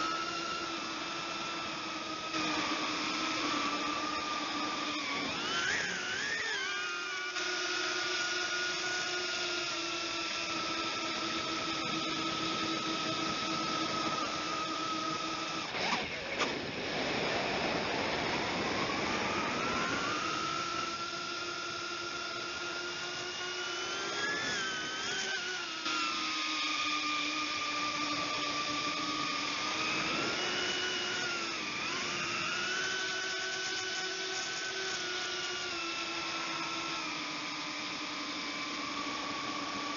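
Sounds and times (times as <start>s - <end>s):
quadcopter propellers whining: 0.0s - 39.9s.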